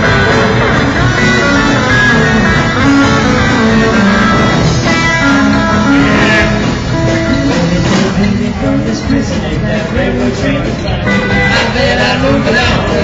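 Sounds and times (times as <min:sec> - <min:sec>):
lead guitar picking notes: 0:00.0 - 0:10.0, 0:10.6 - 0:13.0
live country-rock band: 0:00.0 - 0:13.0.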